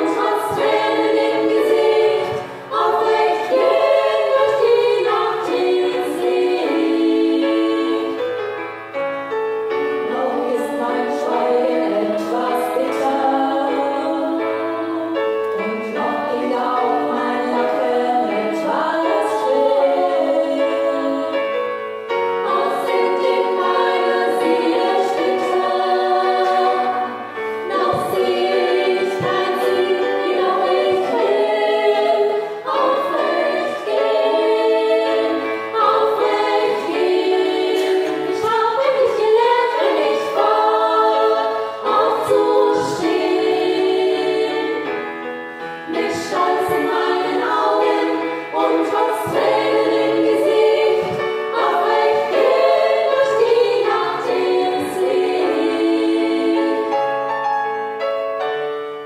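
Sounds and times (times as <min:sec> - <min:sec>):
women singing in harmony: 0:00.0 - 0:08.6, 0:09.9 - 0:57.3
keyboard accompaniment: 0:00.0 - 0:59.0.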